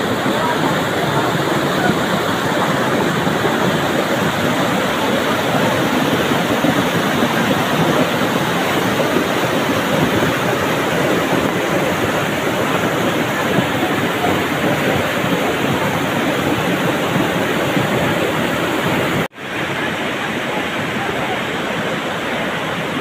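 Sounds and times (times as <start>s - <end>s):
flood water rushing: 0.0s - 23.0s.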